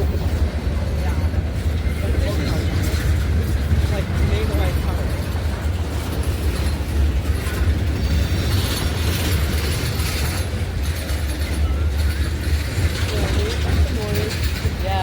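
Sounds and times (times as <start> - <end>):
train rolling on rails: 0.0 - 15.0.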